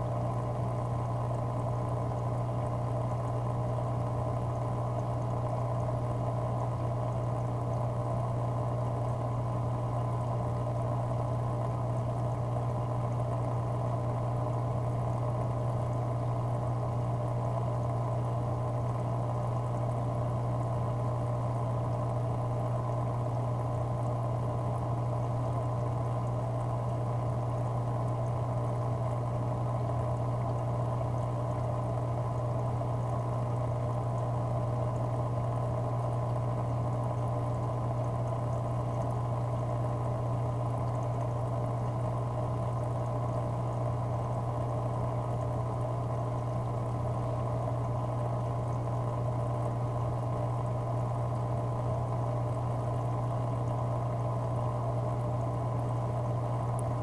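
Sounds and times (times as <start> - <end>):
constant low hum: 0.0 - 57.0.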